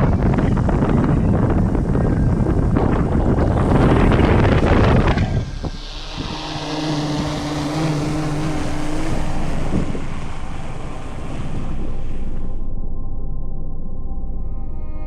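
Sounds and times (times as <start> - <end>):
wind on microphone: 0.0 - 12.6
low hum: 0.0 - 15.0.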